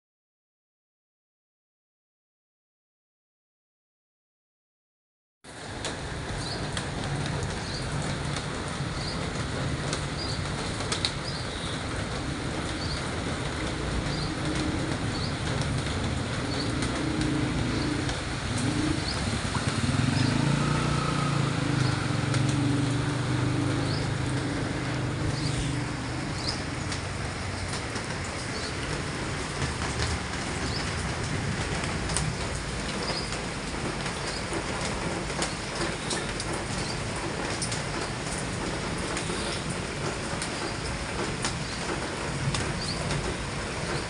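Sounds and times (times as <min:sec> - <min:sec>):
heavy rain into floodwater: 0:05.5 - 0:44.0.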